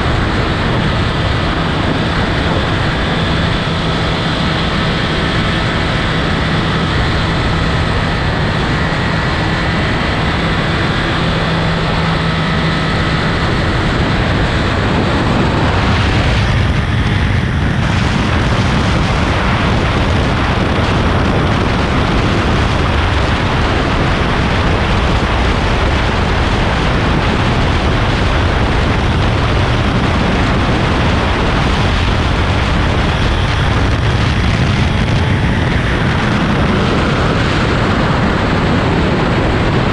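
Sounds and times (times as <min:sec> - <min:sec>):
motorcycle engine droning: 0:00.0 - 0:39.9
wind buffeting microphone: 0:00.0 - 0:39.9.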